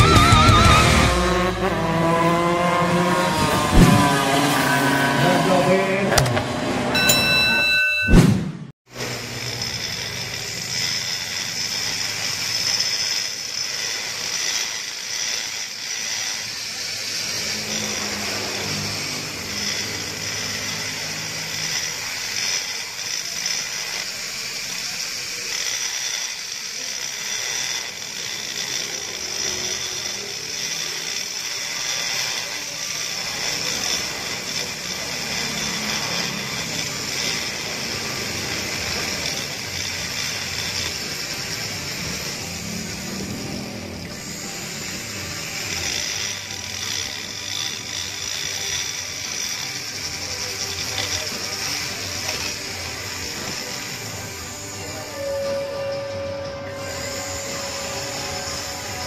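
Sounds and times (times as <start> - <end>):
rotary grinder whine: 0.0 - 8.0, 8.9 - 59.0.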